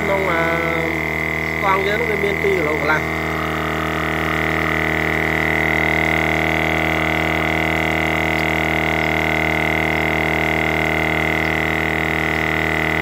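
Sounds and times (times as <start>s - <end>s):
electric tyre inflator running: 0.0s - 13.0s.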